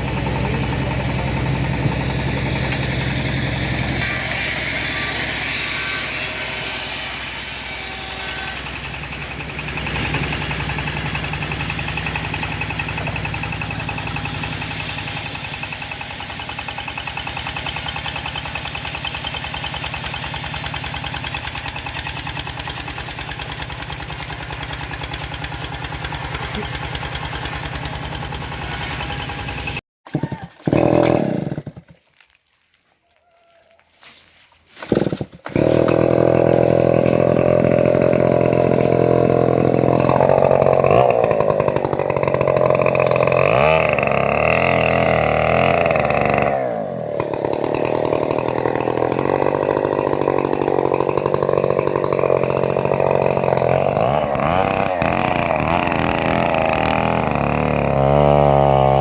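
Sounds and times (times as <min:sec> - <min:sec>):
engine-driven bandsaw droning: 0:00.0 - 0:29.8, 0:35.5 - 0:59.0.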